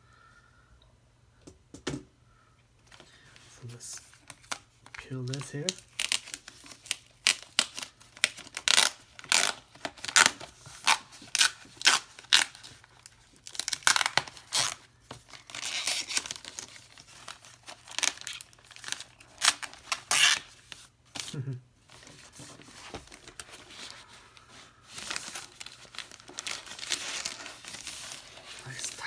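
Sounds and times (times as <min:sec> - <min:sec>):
packaging being torn open: 0:04.0 - 0:29.0.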